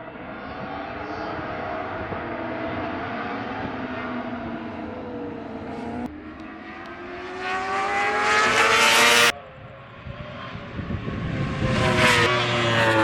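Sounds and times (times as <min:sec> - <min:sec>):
racing motorcycles accelerating: 0:00.0 - 0:13.0.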